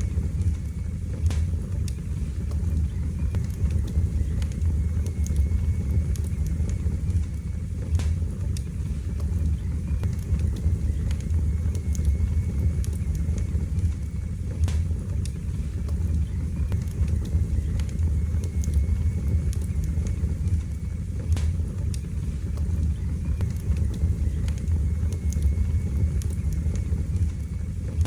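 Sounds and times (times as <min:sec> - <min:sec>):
fire crackling and popping: 0:00.0 - 0:28.0
fire flames roaring: 0:00.0 - 0:28.0.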